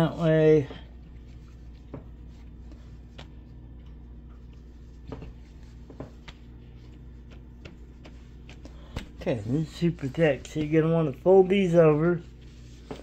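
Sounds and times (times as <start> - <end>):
low background hum: 0.0 - 13.0
soft rustles and taps: 0.7 - 13.0.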